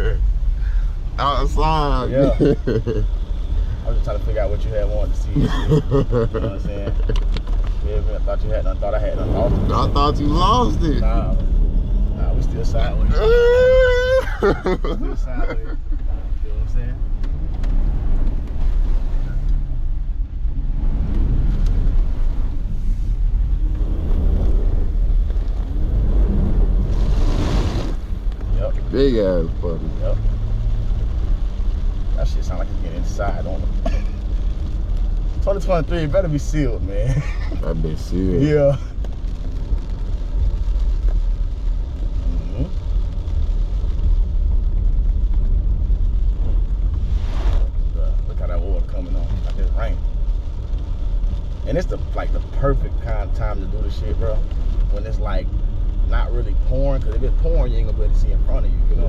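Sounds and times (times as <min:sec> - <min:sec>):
truck engine rumbling: 0:00.0 - 0:59.0.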